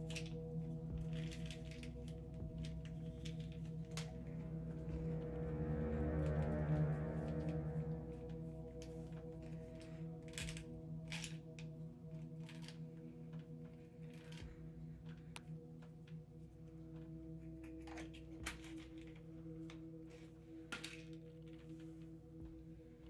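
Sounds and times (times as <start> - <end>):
ambient drone of steady tones: 0.0 - 23.0.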